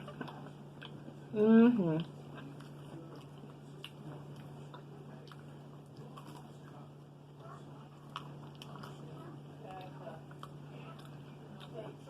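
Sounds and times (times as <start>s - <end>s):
person chewing food: 0.0s - 1.3s, 2.0s - 12.0s
steady low hum: 0.0s - 12.0s.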